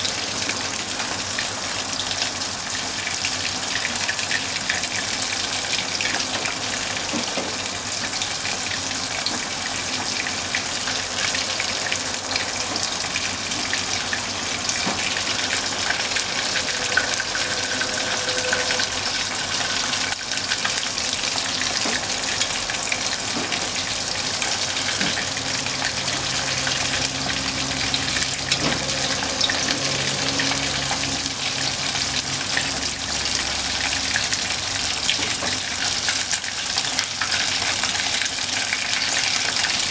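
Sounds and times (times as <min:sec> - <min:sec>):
meat deep-frying in oil: 0:00.0 - 0:39.9.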